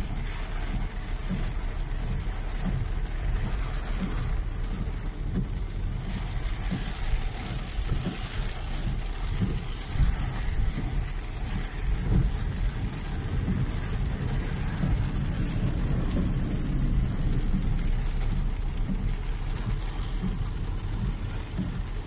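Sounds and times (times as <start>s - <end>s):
car rumble: 0.0s - 22.0s
heavy rain on a car: 0.0s - 22.0s.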